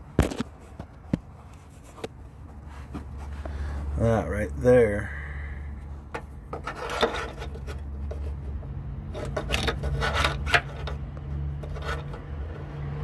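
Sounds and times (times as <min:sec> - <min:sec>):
handling noise rubbing and scuffing: 0:00.0 - 0:04.3, 0:05.8 - 0:12.7
steady low hum: 0:00.8 - 0:13.0.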